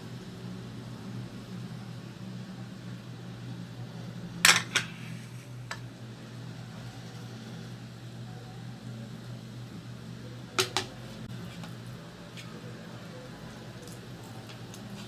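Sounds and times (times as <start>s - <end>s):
low electric hum: 0.0s - 15.0s.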